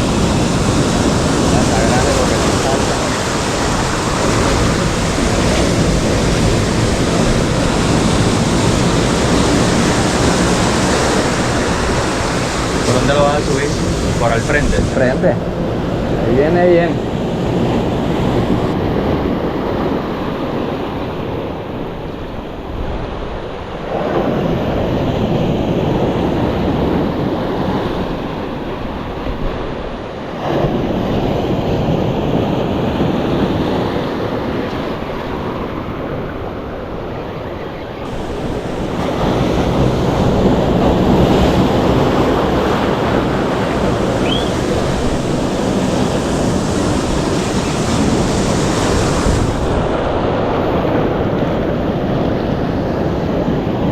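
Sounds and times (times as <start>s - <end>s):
ocean surf breaking: 0.0s - 53.9s
wind buffeting microphone: 0.0s - 53.9s.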